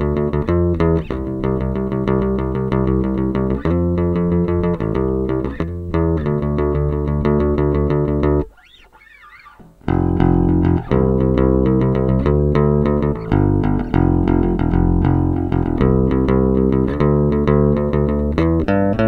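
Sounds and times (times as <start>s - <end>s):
electric bass guitar plucked: 0.0s - 19.0s.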